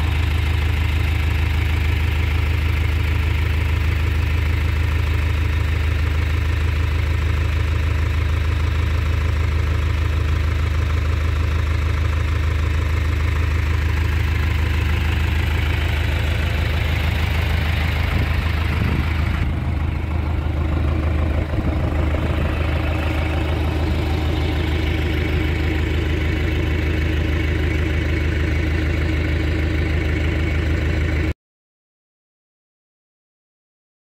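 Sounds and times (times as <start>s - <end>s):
tractor engine idling: 0.0s - 31.4s.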